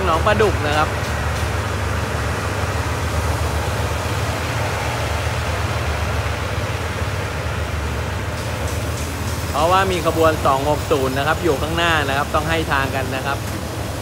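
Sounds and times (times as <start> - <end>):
steady hiss: 0.0 - 14.0
train wheels rumbling on rails: 0.0 - 14.0.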